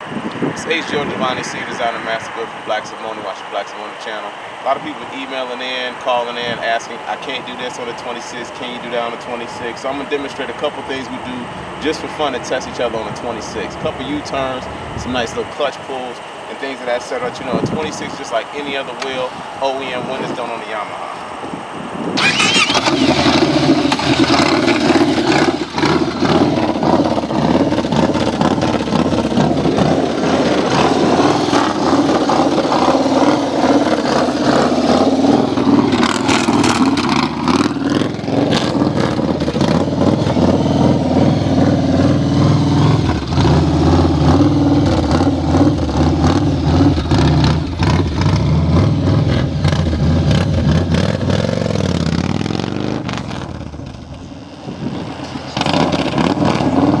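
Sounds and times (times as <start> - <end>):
motorcycle engine running: 4.2 - 20.8, 21.7 - 57.0.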